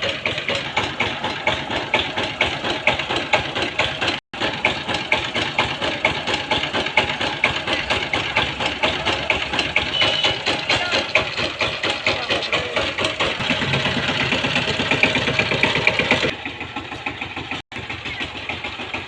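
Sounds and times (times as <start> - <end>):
tiller engine knocking: 0.0 - 19.0.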